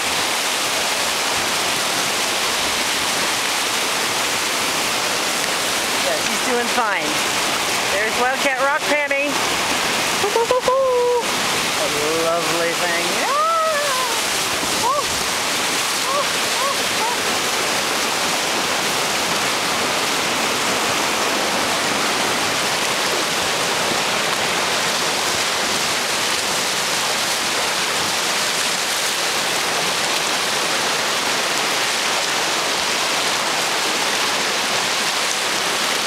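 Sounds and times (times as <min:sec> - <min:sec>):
whitewater rapids rushing: 0:00.0 - 0:36.0.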